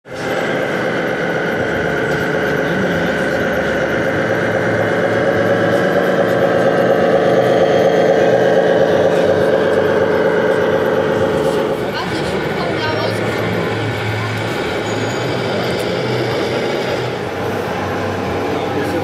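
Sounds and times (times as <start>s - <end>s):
simulated diesel engine running: 0.0s - 19.0s.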